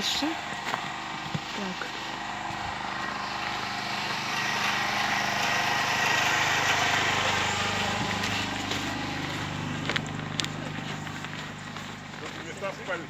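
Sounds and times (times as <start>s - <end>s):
engine running with hum: 0.0s - 13.0s
rough engine noise: 0.0s - 13.0s.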